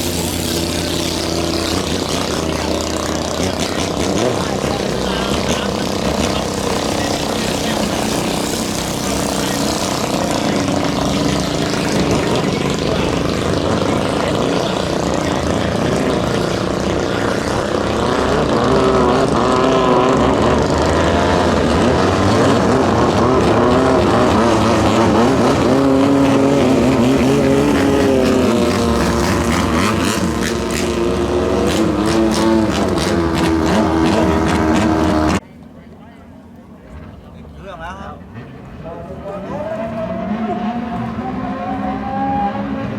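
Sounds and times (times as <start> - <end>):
boat engines revving: 0.0 - 42.9.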